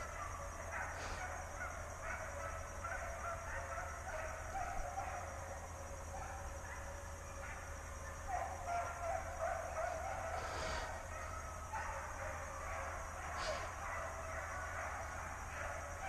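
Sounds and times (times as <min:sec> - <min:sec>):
hounds baying and yelping: 0:00.0 - 0:16.0.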